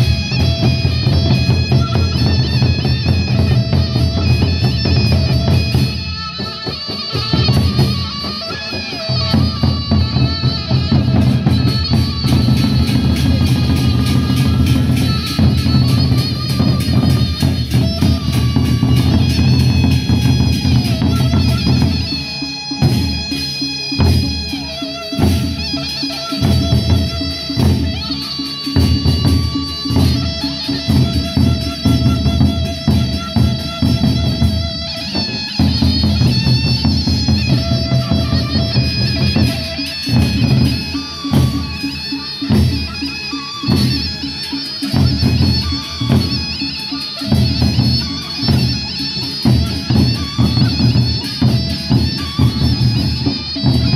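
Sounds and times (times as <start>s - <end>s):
barrel drums beaten with sticks: 0.0s - 53.9s
held melodic tones: 0.0s - 53.9s.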